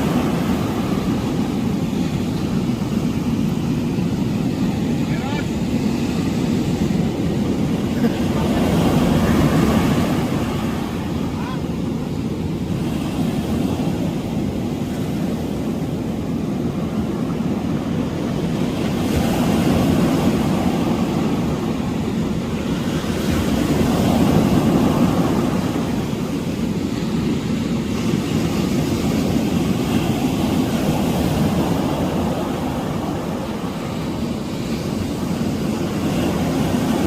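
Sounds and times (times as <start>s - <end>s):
ocean surf: 0.0s - 37.0s.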